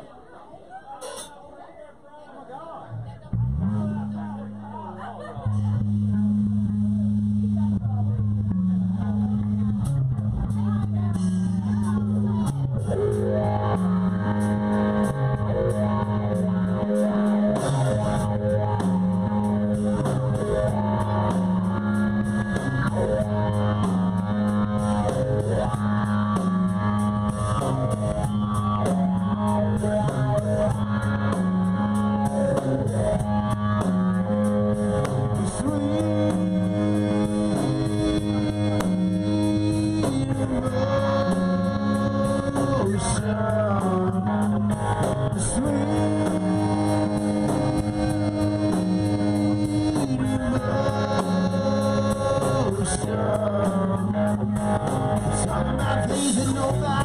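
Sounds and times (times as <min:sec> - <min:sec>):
repeating bass line: 0:02.9 - 0:57.0
electric guitar: 0:03.3 - 0:57.0
drum kit: 0:08.9 - 0:57.0.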